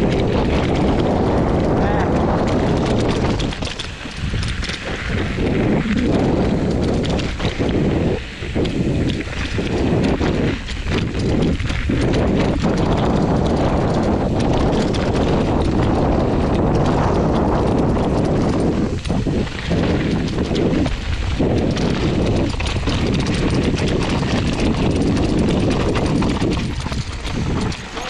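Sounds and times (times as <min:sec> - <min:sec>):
mountain bike rattling over rocks: 0:00.0 - 0:28.0.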